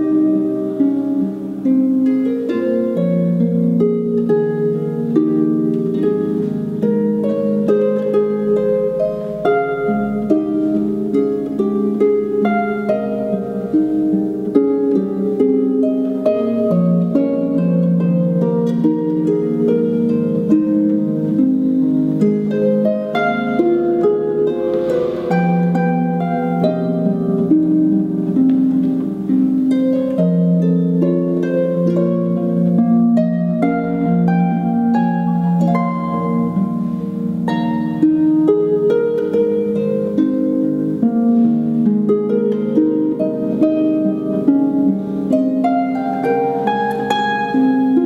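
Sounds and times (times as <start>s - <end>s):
harp playing gentle piece: 0.0s - 48.0s.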